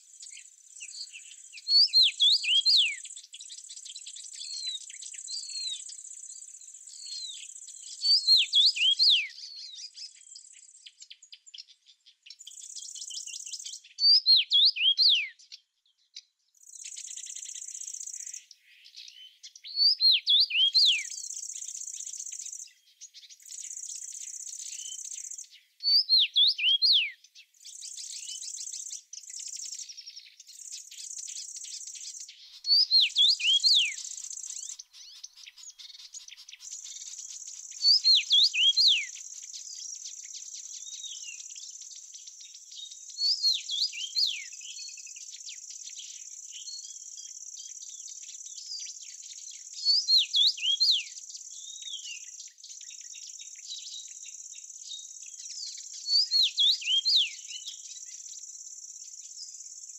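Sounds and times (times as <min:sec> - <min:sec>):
songbird chirping: 0:00.0 - 0:59.9.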